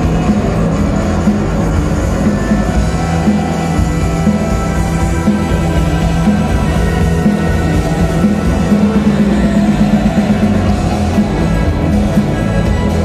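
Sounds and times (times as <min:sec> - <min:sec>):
bass guitar: 0:00.0 - 0:13.0
drums: 0:00.0 - 0:13.0
electric guitars: 0:00.0 - 0:13.0.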